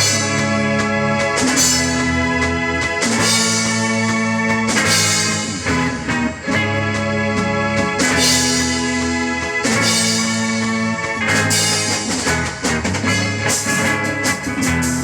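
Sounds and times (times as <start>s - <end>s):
rock band instrumental: 0.0s - 15.0s.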